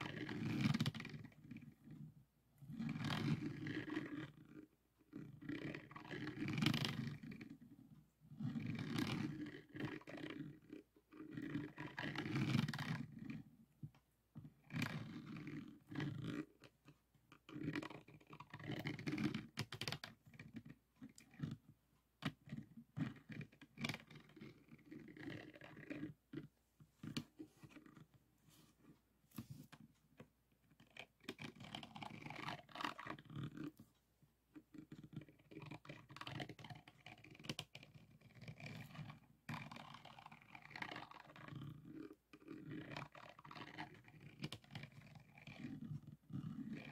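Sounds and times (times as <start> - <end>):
plastic pen scratching and clicking: 0.0 - 2.0, 2.7 - 28.2, 28.8 - 46.9.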